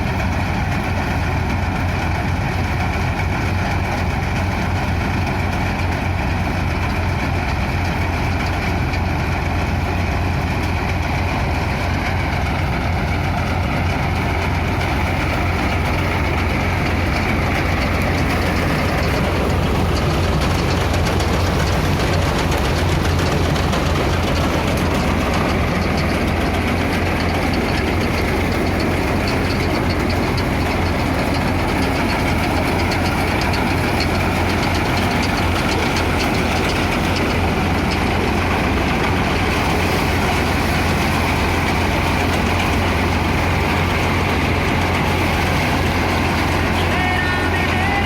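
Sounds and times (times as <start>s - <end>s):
tractor diesel engine drone: 0.0s - 48.0s.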